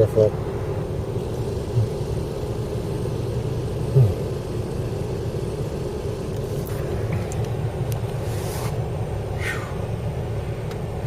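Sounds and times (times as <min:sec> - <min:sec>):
car engine running: 0:00.0 - 0:11.0
heater fan blowing: 0:00.0 - 0:11.0.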